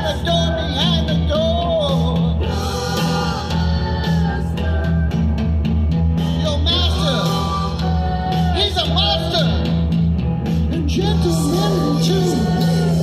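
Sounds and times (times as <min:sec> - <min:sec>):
man singing: 0:00.0 - 0:05.2, 0:06.3 - 0:09.8, 0:10.6 - 0:13.0
electric bass: 0:00.0 - 0:13.0.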